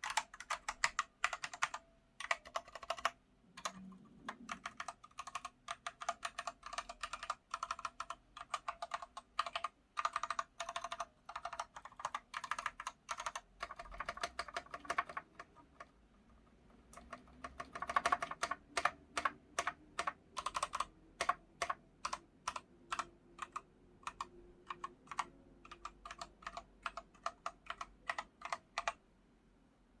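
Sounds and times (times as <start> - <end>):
mechanical keyboard typing: 0.0 - 29.0.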